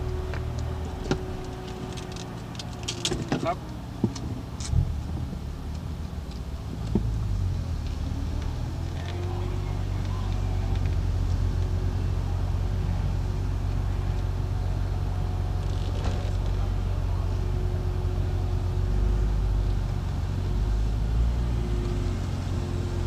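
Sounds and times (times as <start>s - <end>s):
car engine humming: 0.0s - 23.0s.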